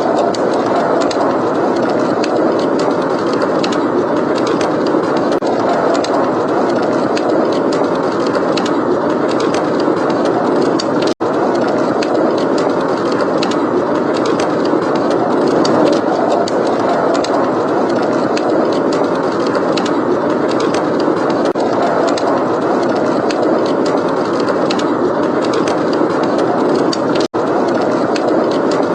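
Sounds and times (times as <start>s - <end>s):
howling blizzard wind: 0.0s - 28.9s
wood fire crackling: 0.0s - 28.9s.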